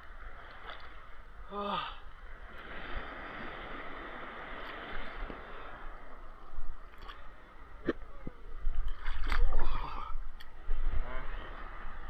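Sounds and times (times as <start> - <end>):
muffled water sloshing and gurgling: 0.0 - 12.0.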